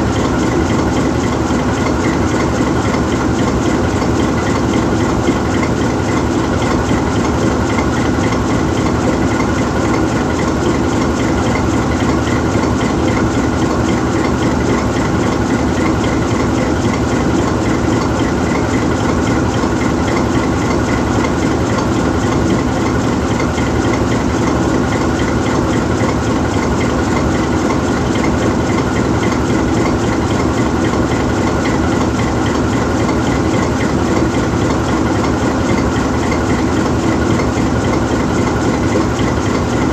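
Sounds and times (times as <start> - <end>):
diesel locomotive engine idling: 0.0 - 39.9.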